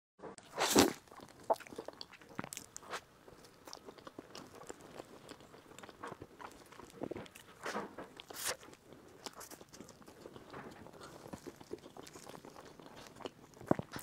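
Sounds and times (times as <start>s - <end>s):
crunch of biting food: 0.4s - 14.0s
chewing with wet mouth clicks: 0.7s - 14.0s.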